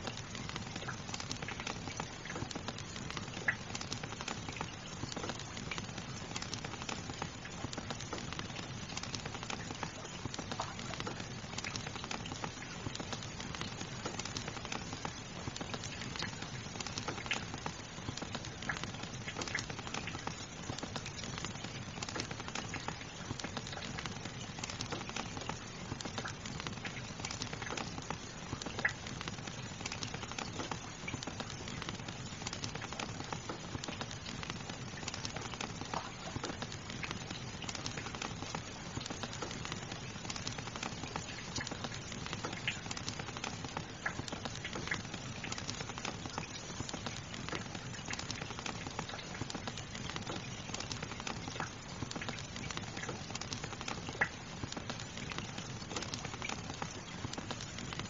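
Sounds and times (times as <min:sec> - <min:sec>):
fire crackling and popping: 0:00.0 - 0:58.0
rain hiss: 0:00.0 - 0:58.0.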